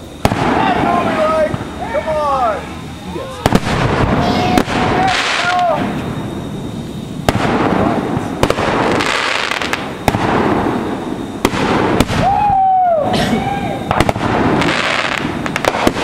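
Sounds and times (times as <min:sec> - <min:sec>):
firework bangs: 0:00.0 - 0:16.0
firework crackling and hissing: 0:00.0 - 0:16.0
firework whistles: 0:00.0 - 0:16.0.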